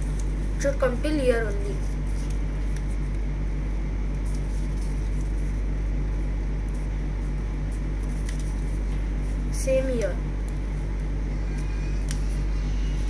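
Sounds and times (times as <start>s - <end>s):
paper strip rustling: 0.0s - 3.3s, 4.1s - 5.8s, 6.6s - 13.0s
low background hum: 0.0s - 13.0s.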